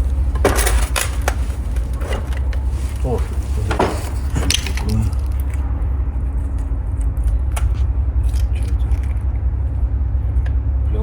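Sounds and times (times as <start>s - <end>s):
steady low rumble: 0.0s - 11.0s
small parts clicking and scraping: 0.4s - 9.4s.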